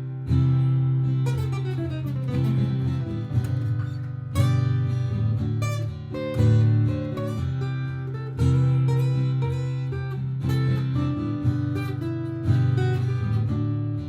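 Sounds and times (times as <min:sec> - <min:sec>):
acoustic guitar melody: 0:00.0 - 0:14.0
strummed guitar chords: 0:00.0 - 0:14.0.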